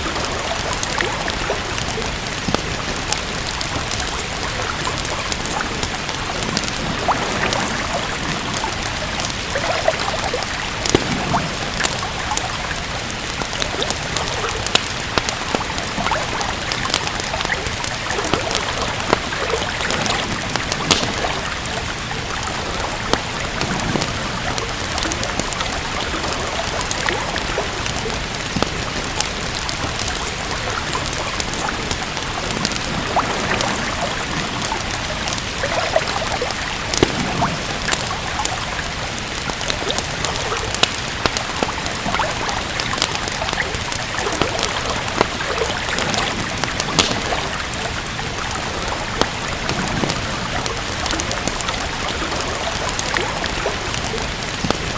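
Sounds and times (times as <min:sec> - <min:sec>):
rain hissing: 0:00.0 - 0:54.9
wood fire crackling and popping: 0:00.0 - 0:54.9.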